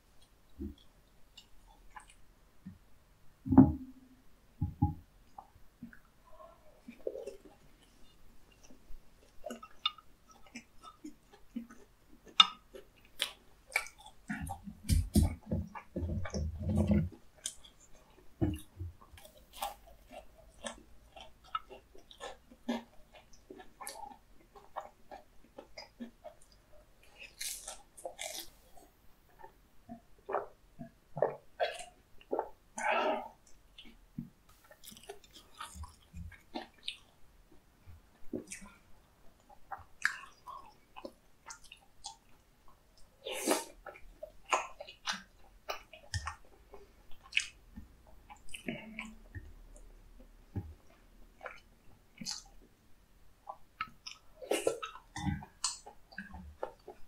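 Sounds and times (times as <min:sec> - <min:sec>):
chewing crispy fried food: 0:00.2 - 0:02.3, 0:06.8 - 0:57.0.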